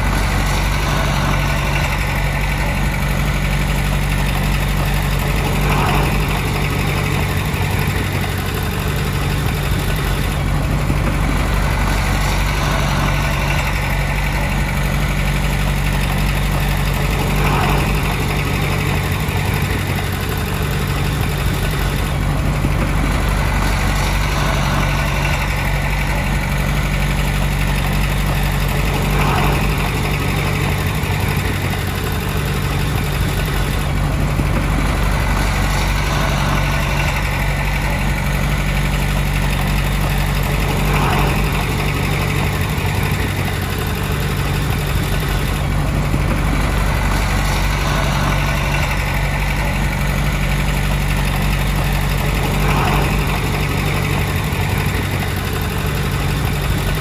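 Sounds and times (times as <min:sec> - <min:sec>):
diesel engine humming: 0:00.0 - 0:57.0
higher whining sound: 0:00.0 - 0:57.0.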